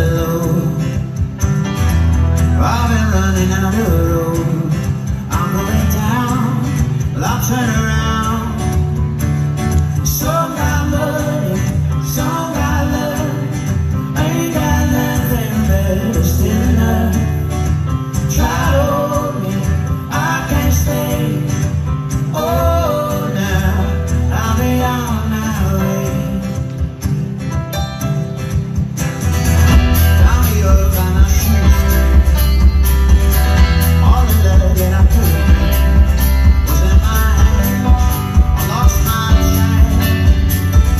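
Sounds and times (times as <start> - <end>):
bass: 0.0 - 40.9
drums: 0.0 - 40.9
keyboard: 0.0 - 40.9
strummed acoustic guitar: 0.0 - 40.9.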